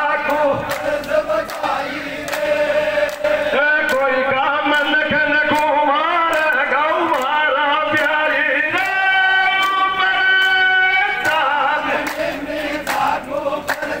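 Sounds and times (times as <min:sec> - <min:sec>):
men singing folk song: 0:00.0 - 0:14.0.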